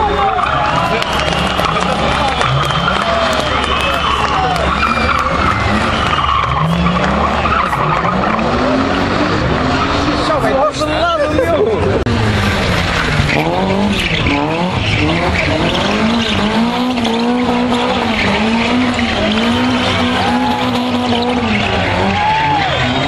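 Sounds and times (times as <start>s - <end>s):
tyres squealing on cobblestones: 0.0s - 11.6s, 12.5s - 23.0s
rally car engine revving: 0.0s - 23.0s.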